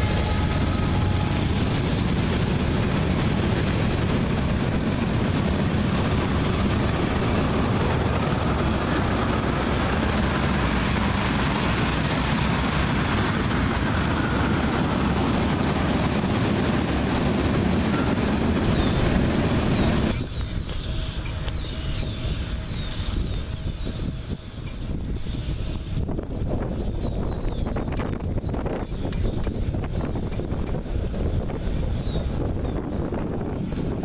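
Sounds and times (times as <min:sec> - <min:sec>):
freight train rolling past: 0:00.0 - 0:34.0.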